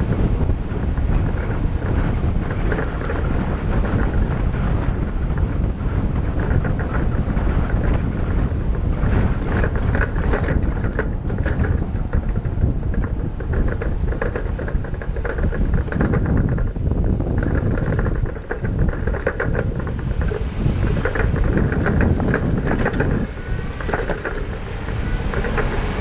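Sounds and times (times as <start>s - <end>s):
bus engine and road rumble: 0.0s - 26.0s
rattles and clicks: 0.0s - 26.0s.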